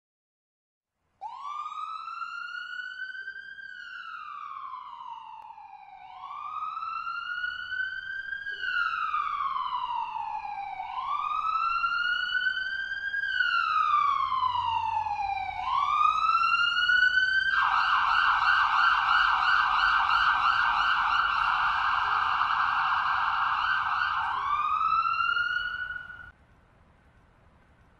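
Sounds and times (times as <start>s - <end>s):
ambulance siren wailing and yelping: 1.2s - 26.3s.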